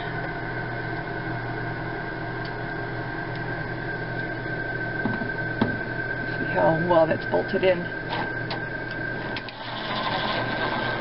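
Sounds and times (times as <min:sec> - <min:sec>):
electrical hum: 0:00.0 - 0:11.0
high-pitched whine: 0:00.0 - 0:11.0.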